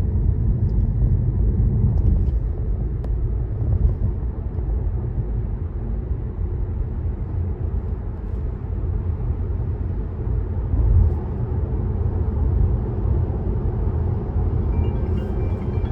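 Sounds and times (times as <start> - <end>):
road and tyre noise: 0.0 - 15.9.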